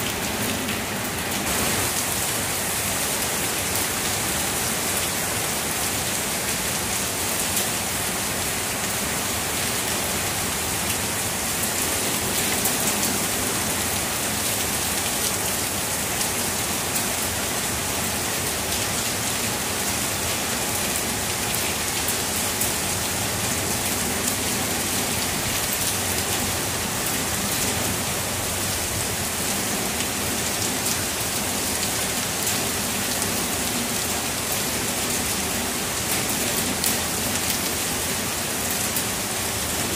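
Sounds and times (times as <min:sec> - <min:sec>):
heavy rain hissing: 0:00.0 - 0:16.2, 0:19.5 - 0:39.9
patter of raindrops: 0:00.0 - 0:39.9.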